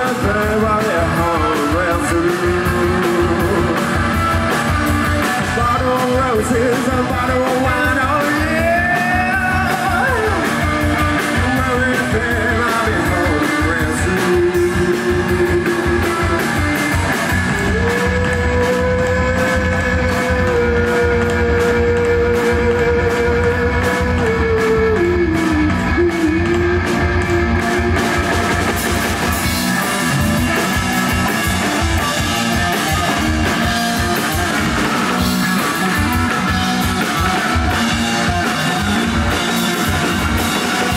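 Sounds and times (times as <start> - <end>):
guitar lead with bending notes: 0.0 - 40.9
rock band playing live: 0.0 - 40.9.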